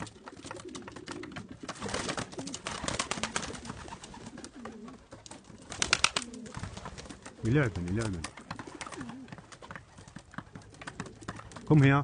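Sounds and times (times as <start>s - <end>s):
pigeons cooing: 0.0s - 11.8s.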